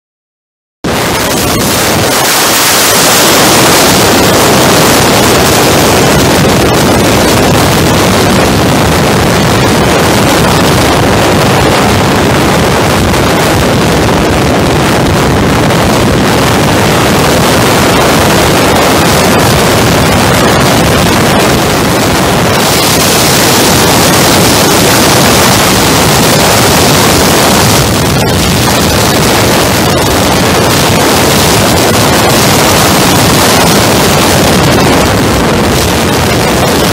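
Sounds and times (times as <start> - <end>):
wind rushing over microphone: 0.8 - 36.9.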